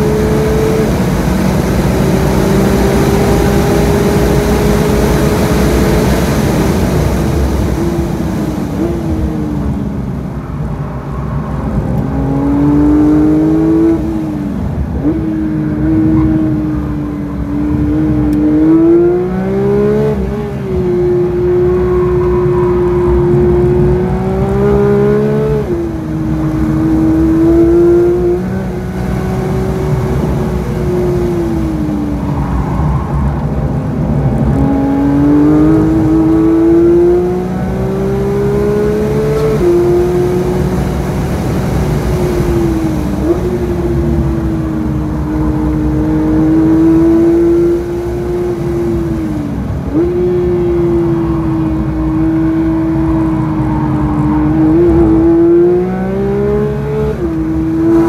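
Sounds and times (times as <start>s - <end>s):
race car engine revving: 0.0s - 10.2s, 11.6s - 58.0s.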